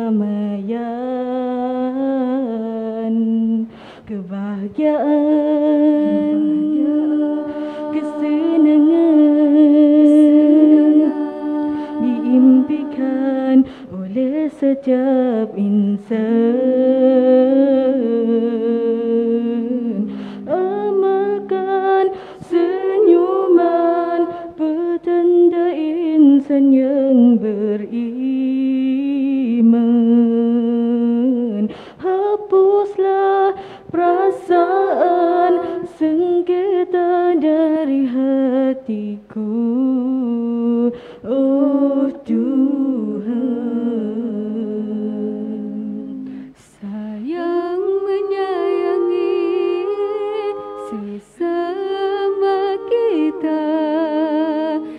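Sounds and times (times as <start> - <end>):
women singing a cappella in harmony: 0.0 - 54.9.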